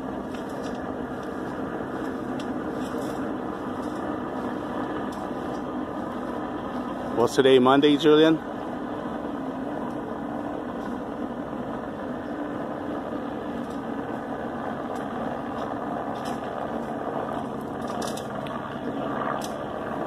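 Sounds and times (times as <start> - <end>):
helicopter engine and rotors droning: 0.0 - 20.0.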